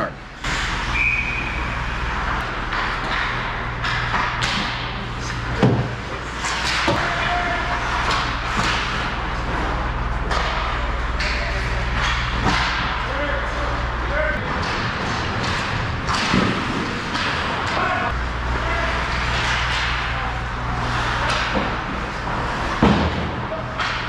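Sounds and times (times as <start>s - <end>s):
low rink hum: 0.0s - 24.0s
hockey sticks and puck knocking: 2.3s - 13.1s, 14.4s - 18.0s, 19.0s - 24.0s.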